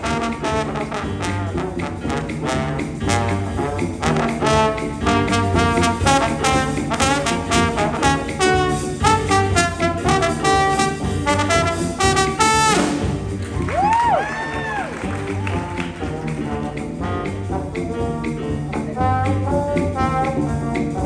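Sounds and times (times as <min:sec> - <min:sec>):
brass band playing jazz: 0:00.0 - 0:21.0.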